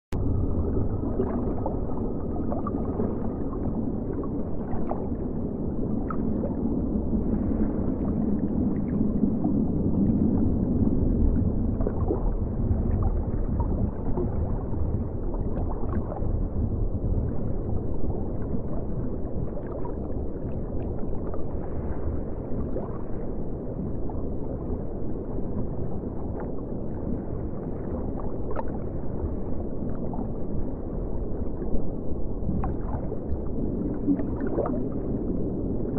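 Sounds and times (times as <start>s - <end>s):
muffled rumble of moving water: 0.1s - 35.9s.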